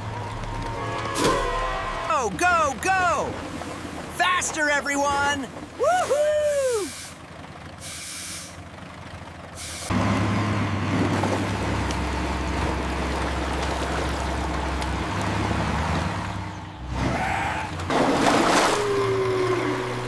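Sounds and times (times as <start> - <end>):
heavy vehicle engine rumbling: 0.0 - 20.0.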